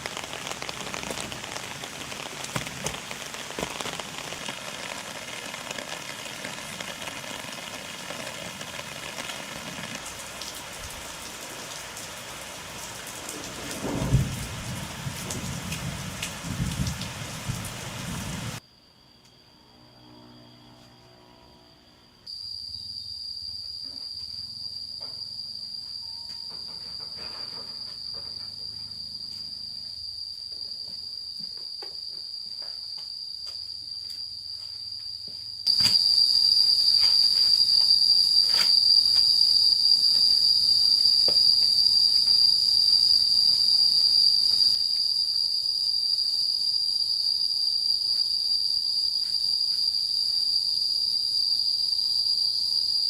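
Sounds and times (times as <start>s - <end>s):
shrill insect chorus: 0.0s - 53.0s.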